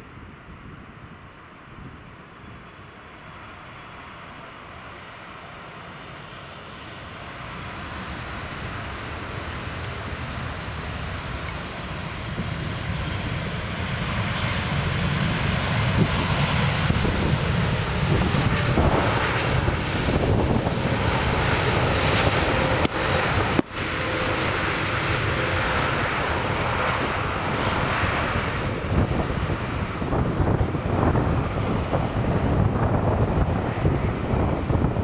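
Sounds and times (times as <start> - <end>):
jet engine rumble: 0.0 - 35.0.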